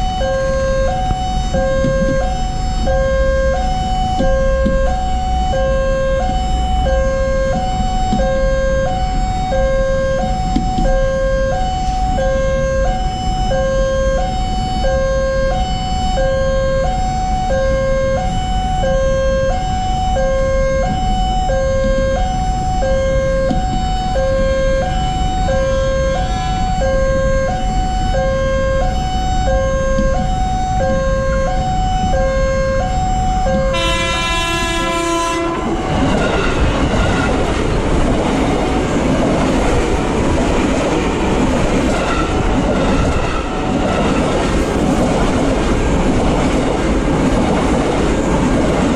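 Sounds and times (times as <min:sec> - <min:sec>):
train horn: 0:00.0 - 0:37.6, 0:41.8 - 0:44.3.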